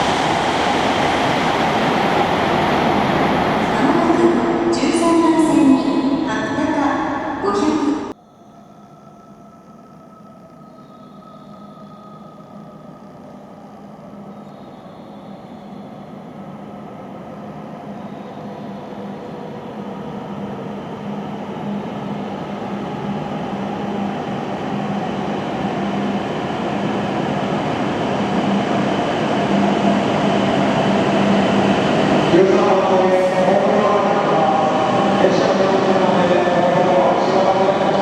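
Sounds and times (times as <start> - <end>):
train approaching: 0.0 - 38.0.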